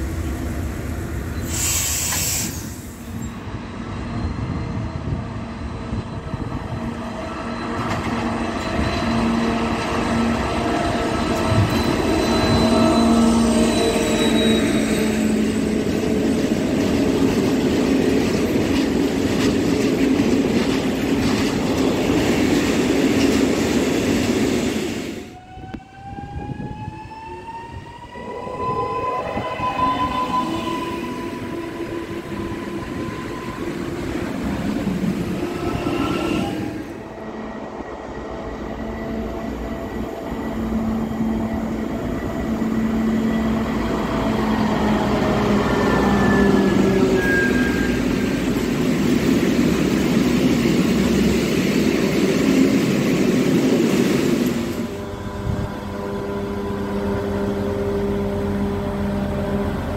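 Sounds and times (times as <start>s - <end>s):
diesel locomotive engine drone: 0.0s - 59.9s
freight train rumbling past: 0.0s - 59.9s.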